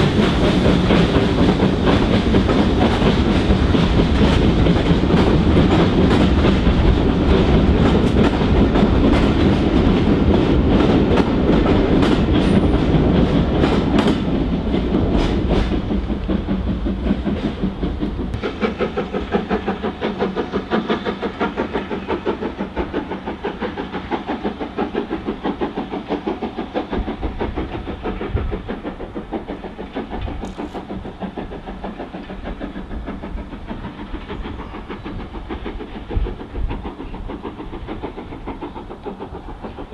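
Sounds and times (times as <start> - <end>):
steam locomotive chuffing: 0.0 - 39.9
train wheels clattering over rail joints: 0.0 - 39.9.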